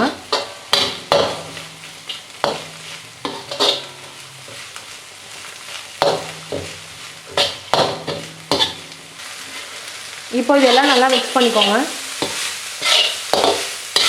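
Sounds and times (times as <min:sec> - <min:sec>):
food sizzling: 0:00.0 - 0:14.0
spatula scraping a frying pan: 0:00.3 - 0:14.0.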